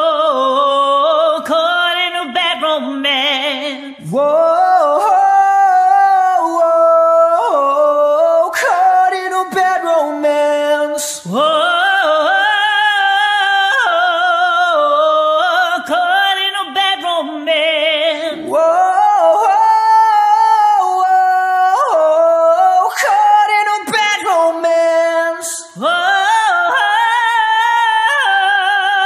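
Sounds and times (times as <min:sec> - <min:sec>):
man singing a cappella: 0:00.0 - 0:29.0
woman singing a cappella: 0:00.0 - 0:29.0.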